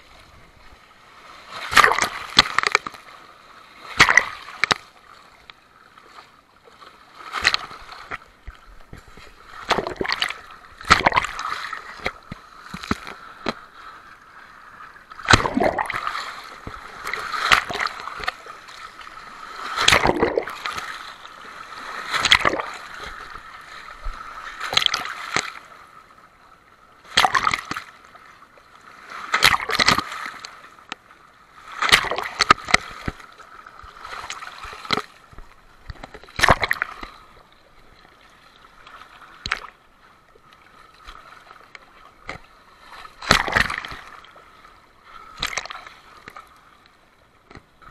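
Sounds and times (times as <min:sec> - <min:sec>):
sea waves breaking: 0:00.0 - 0:47.9.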